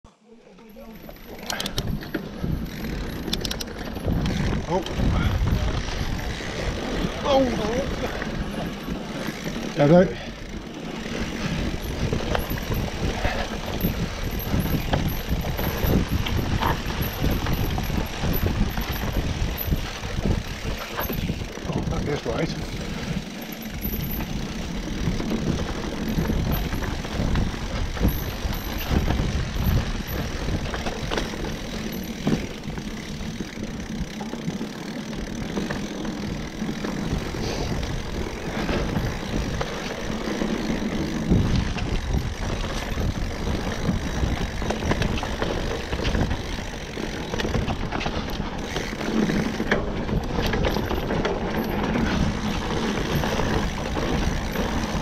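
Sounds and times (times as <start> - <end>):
tyres rolling on dirt: 0.6 - 55.0
bike knocks and rattles: 1.5 - 55.0
wind rumbling on microphone: 1.5 - 55.0.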